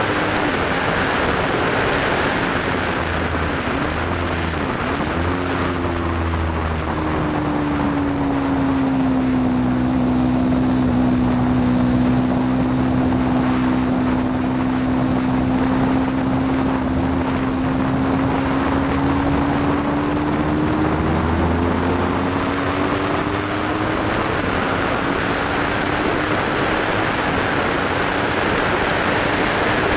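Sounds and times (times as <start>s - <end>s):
motorcycle engine running hard: 0.0s - 29.9s
wind rushing over microphone: 0.0s - 29.9s.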